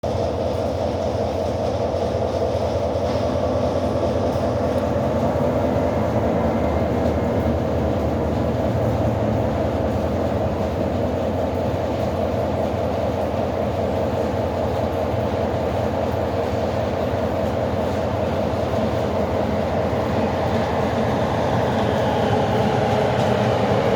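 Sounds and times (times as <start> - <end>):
freight train wheels rumbling on rails: 0.0 - 23.9.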